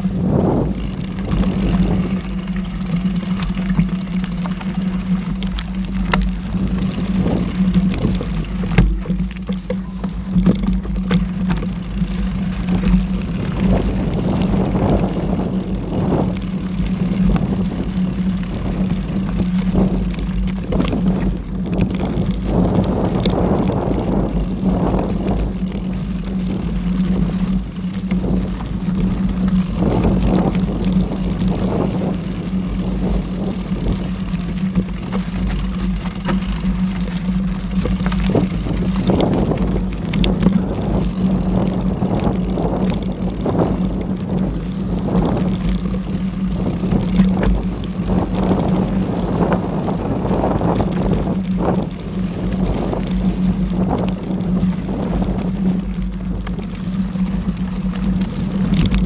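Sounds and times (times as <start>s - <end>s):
bike rattling over bumps: 0.0s - 59.0s
steady hum: 0.0s - 59.0s
wind rumbling on microphone: 0.0s - 59.0s.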